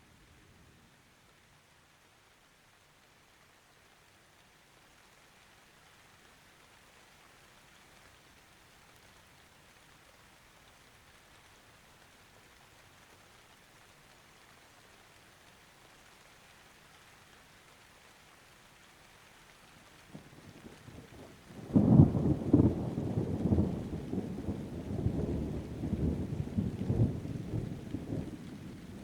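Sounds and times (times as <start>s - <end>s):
faint steady rain: 0.0s - 29.0s.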